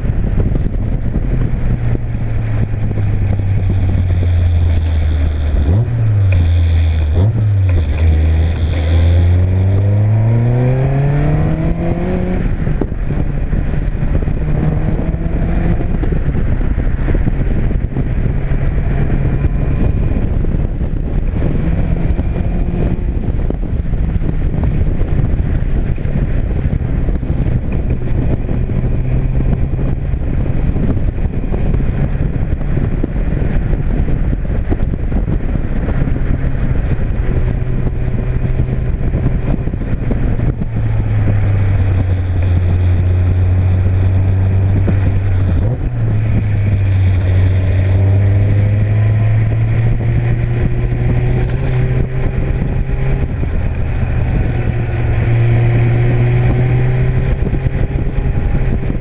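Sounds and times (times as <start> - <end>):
sports car engine pulling: 0.0 - 59.0
wind rushing past: 0.0 - 59.0.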